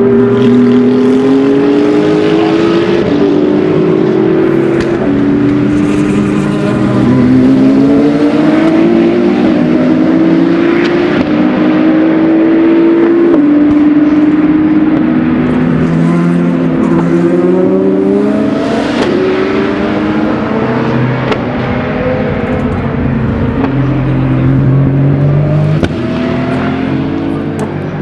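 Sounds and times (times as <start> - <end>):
race car engines accelerating: 0.0 - 28.0.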